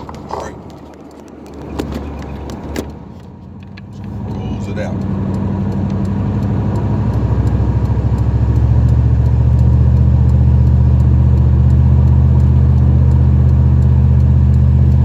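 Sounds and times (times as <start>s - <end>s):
engine and road noise drone: 0.0s - 15.0s.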